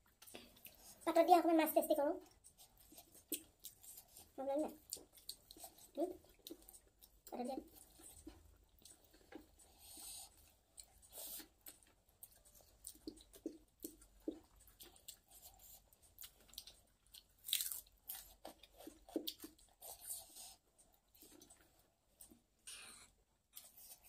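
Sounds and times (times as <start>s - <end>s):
person chewing: 0.0s - 1.0s, 2.2s - 24.0s.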